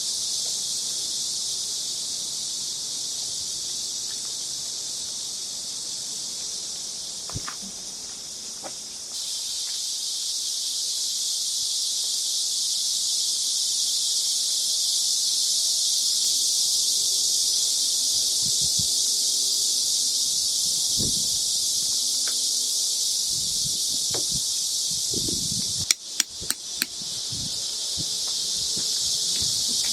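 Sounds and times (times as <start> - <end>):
shrill insect chorus: 0.0 - 29.9.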